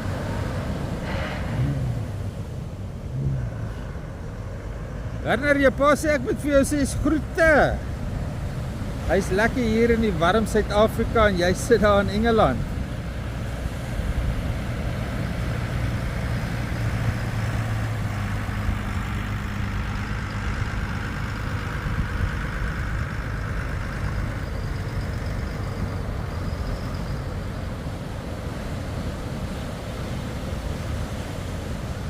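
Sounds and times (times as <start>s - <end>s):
engine running with low hum: 0.0s - 32.0s
surf: 0.0s - 32.0s
wind: 0.0s - 32.0s.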